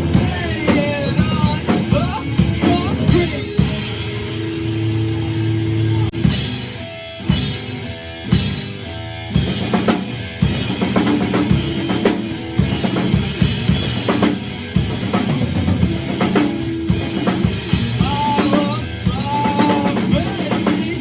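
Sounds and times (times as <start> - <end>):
drum kit beat: 0.0 - 21.0
rock band playing: 0.0 - 21.0.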